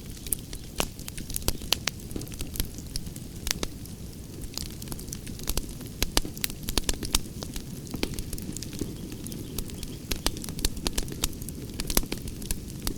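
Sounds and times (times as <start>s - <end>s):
low rumble of flames: 0.0s - 12.9s.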